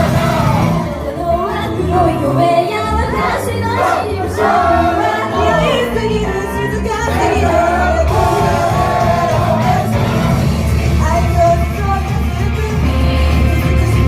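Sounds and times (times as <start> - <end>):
women singing: 0.6 - 14.0.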